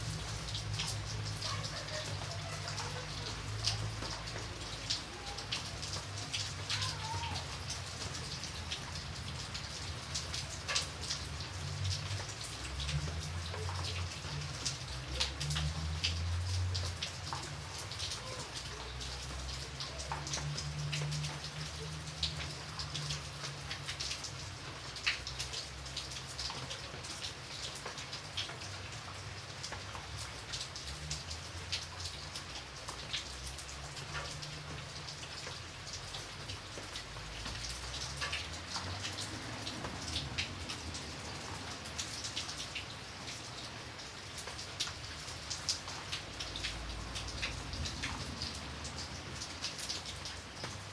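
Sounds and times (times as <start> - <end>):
light rain hissing: 0.0 - 50.9
raindrops ticking on a surface: 0.0 - 50.9.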